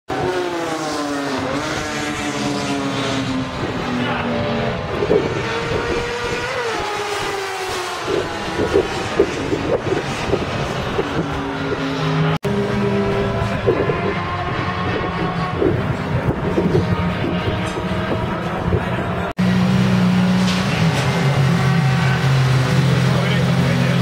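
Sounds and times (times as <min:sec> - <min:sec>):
motorcycle engine revving: 0:00.1 - 0:24.0.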